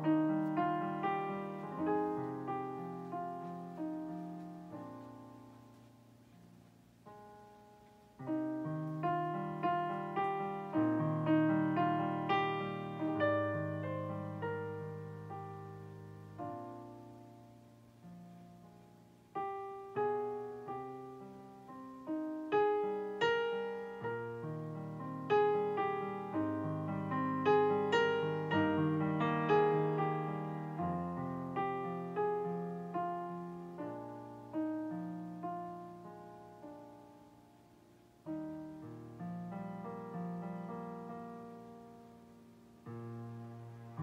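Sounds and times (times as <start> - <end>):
slow piano music: 0.0 - 44.0.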